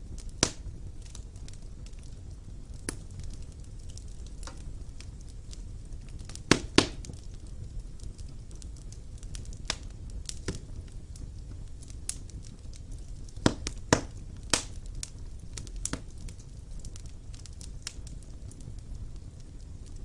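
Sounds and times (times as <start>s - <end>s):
burning logs crackling and popping: 0.0s - 20.0s
low rumble of flame: 0.0s - 20.0s.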